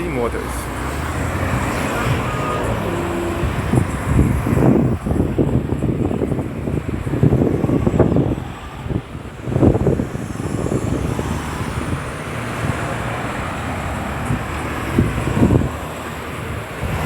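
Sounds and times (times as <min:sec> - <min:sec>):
road traffic passing: 0:00.0 - 0:17.0
wind buffeting microphone: 0:00.0 - 0:17.0.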